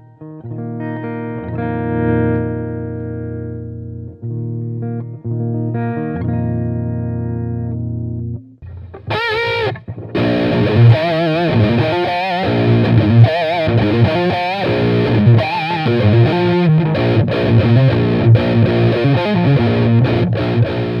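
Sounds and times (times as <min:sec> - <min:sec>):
distorted electric guitar lead: 0:00.0 - 0:21.0.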